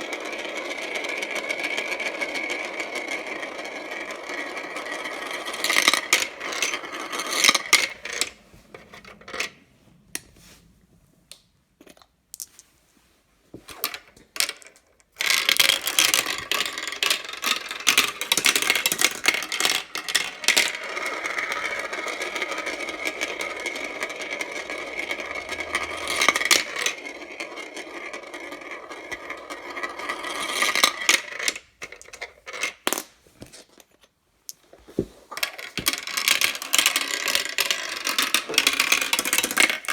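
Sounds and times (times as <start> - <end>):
marbles rolling and clicking: 0.0 - 9.5, 13.7 - 33.9, 35.3 - 39.9.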